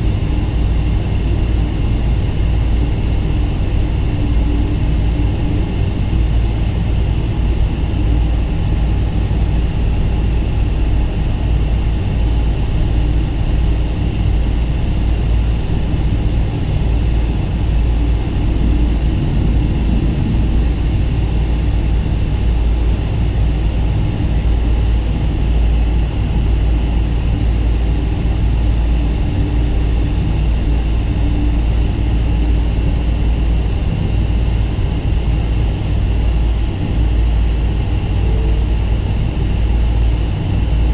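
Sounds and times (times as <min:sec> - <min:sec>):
jet engine roar in cabin: 0:00.0 - 0:40.9.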